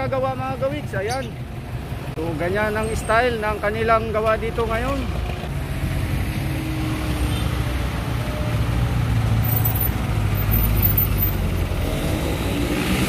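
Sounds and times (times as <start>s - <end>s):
motorcycles: 0.0s - 13.0s
vehicle engines running: 0.0s - 13.0s.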